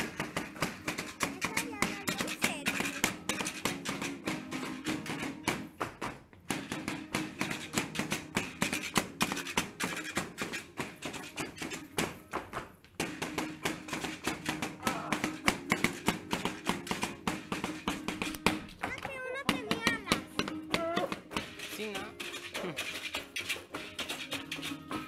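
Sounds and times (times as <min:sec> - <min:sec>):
rhythmic taps and clacks: 0:00.0 - 0:25.0.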